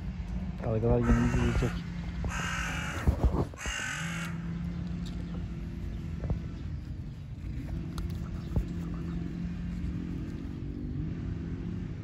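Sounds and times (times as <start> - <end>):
traffic hum and rumble: 0.0 - 12.0.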